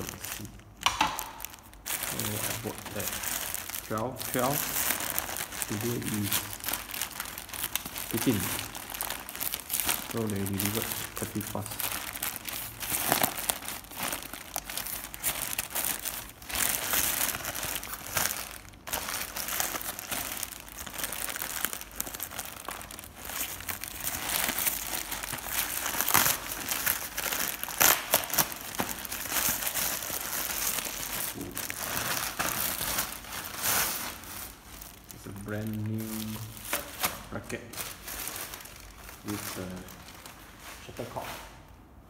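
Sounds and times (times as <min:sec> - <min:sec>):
plastic bag crinkling and tearing: 0:00.0 - 0:41.6.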